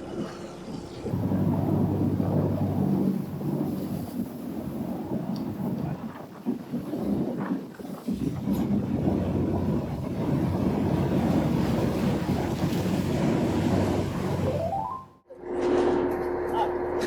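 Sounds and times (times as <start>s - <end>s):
wind rumbling on microphone: 0.0s - 15.1s
boat engine running: 0.0s - 15.2s.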